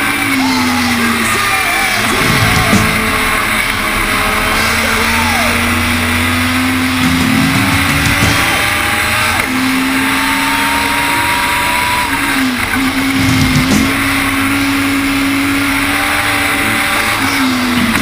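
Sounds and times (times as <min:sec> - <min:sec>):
race car engine at speed: 0:00.0 - 0:18.0
wind and road noise: 0:00.0 - 0:18.0.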